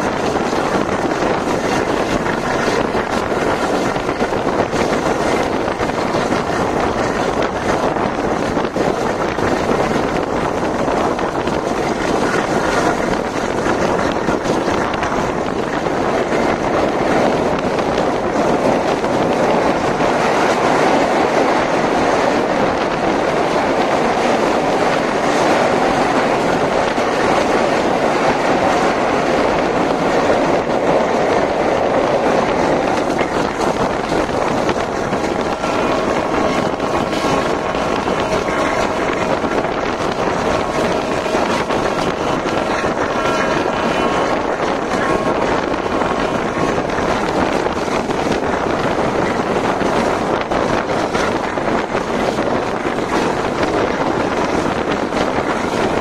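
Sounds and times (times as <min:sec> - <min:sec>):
rush of wind: 0:00.0 - 0:56.0
train wheels clattering over rails: 0:00.0 - 0:56.0.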